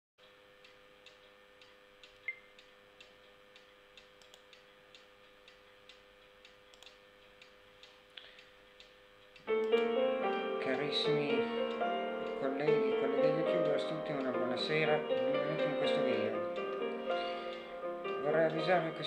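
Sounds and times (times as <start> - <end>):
faint steady hum: 0.2 - 19.0.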